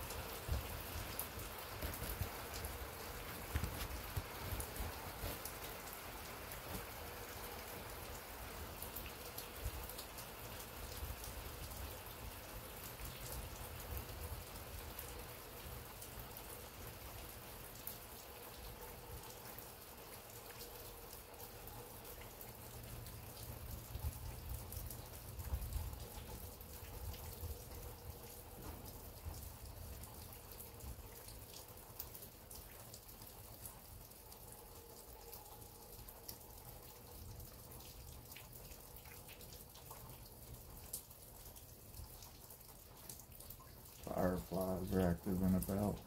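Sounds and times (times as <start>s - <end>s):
light rain falling: 0.0s - 46.0s
raindrops ticking: 0.0s - 46.0s.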